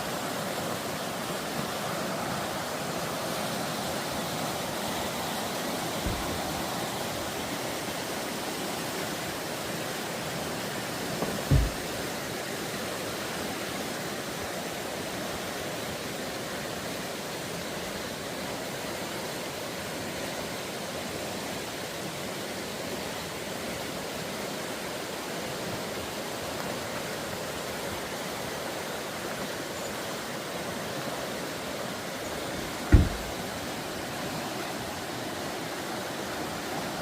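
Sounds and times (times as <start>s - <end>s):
fast-flowing water rushing: 0.0s - 37.0s.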